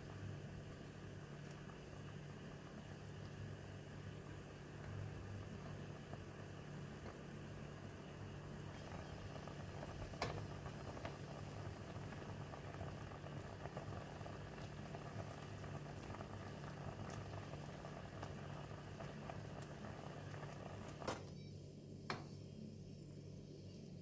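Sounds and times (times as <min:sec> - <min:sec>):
fruit boiling and popping in a pan: 0:00.0 - 0:21.4, 0:22.0 - 0:22.3.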